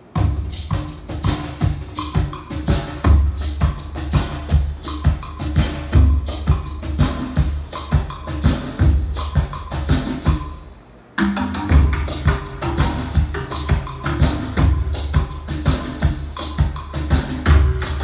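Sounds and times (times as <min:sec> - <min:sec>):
music with heavy bass beats: 0:00.0 - 0:10.7, 0:11.7 - 0:18.0.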